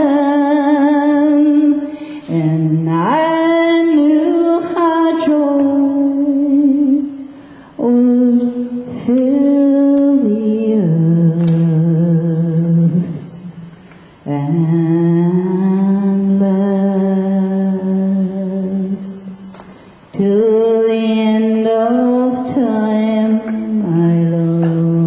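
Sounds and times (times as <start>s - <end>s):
woman singing unaccompanied: 0.0s - 13.4s, 14.2s - 19.4s, 20.1s - 25.0s.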